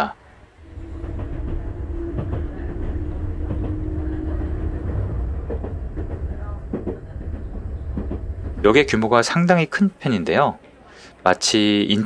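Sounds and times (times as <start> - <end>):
train low rumble: 0.0 - 10.8
held hum: 0.2 - 10.0.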